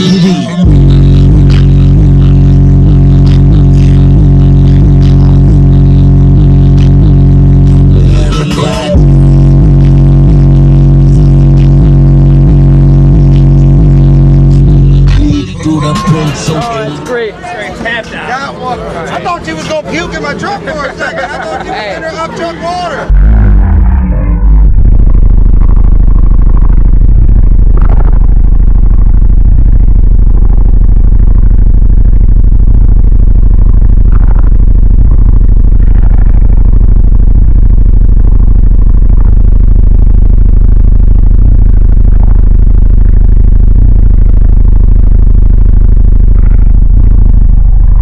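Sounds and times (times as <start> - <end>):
subwoofer low bass tone: 0.0 - 48.0.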